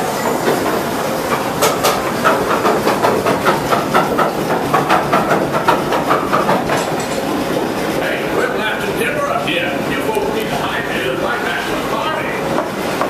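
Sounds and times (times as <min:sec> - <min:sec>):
ride mechanism clacking: 0:00.0 - 0:13.0
rushing water noise: 0:00.0 - 0:13.0.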